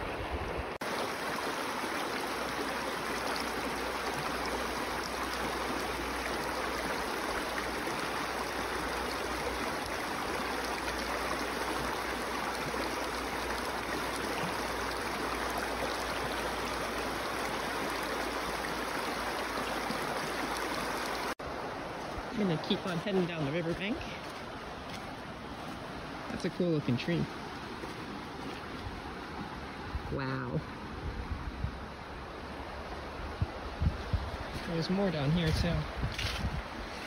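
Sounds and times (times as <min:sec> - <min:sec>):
river water rushing over boulders: 0:00.0 - 0:37.0.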